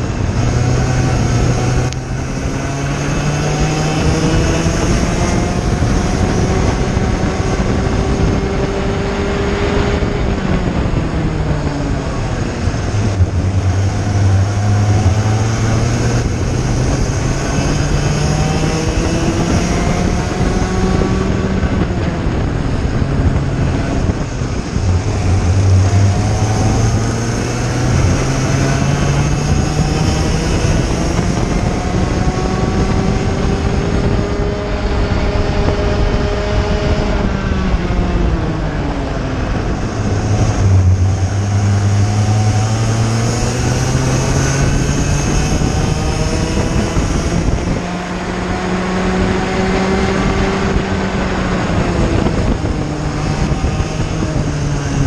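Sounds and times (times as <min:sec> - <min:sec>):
kart engine at racing speed: 0:00.0 - 0:55.0
other kart engines: 0:00.0 - 0:55.0.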